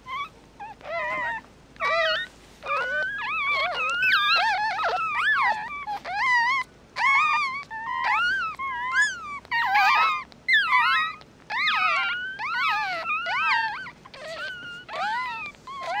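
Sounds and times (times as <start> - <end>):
puppies squeaking and whining: 0.0 - 16.0.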